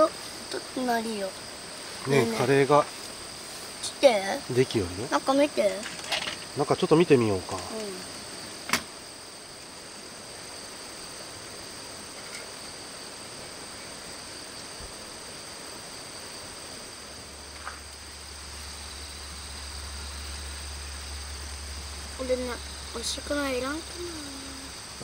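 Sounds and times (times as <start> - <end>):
even hiss: 0.0 - 25.0
high-pitched insect chorus: 0.0 - 25.0.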